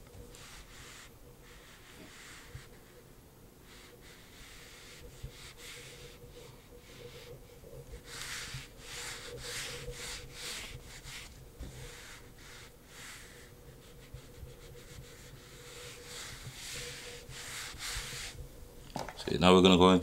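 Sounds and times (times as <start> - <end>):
eraser rubbing on whiteboard: 0.4 - 3.0, 3.7 - 7.4, 8.0 - 18.4.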